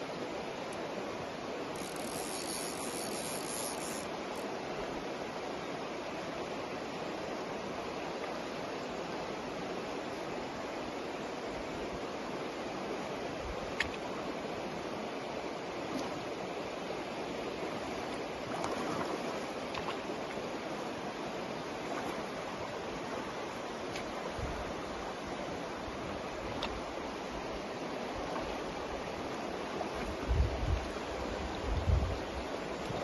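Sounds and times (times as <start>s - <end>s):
river water rushing over stones: 0.0s - 33.0s.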